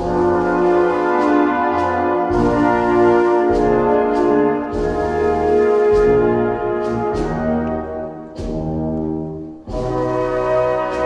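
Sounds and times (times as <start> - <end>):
brass band playing chords: 0.0 - 11.0
percussion strokes: 0.0 - 11.0.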